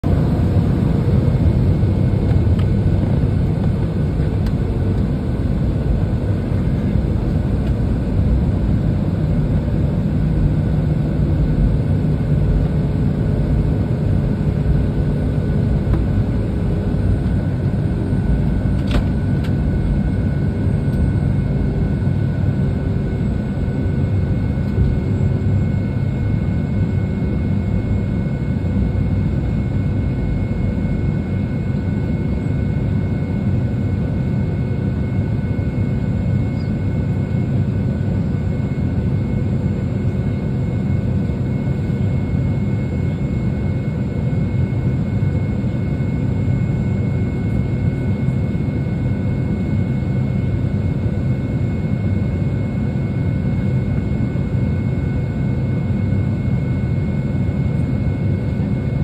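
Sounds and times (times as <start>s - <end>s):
jet engines rumbling with whine: 0.0s - 59.0s.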